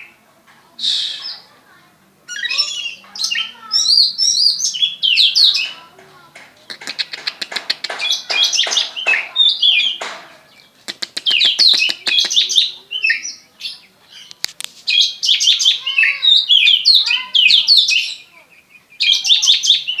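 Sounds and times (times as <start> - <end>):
magpie-robin singing: 0.8 - 1.5, 2.2 - 20.0.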